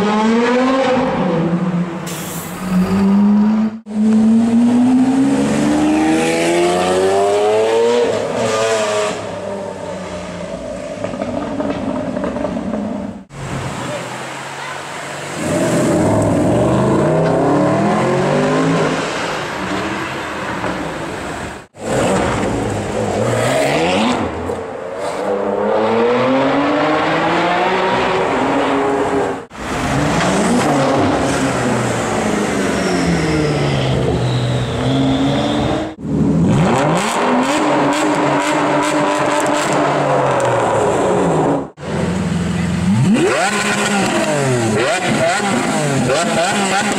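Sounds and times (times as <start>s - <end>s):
sports car engines revving: 2.7s - 46.9s.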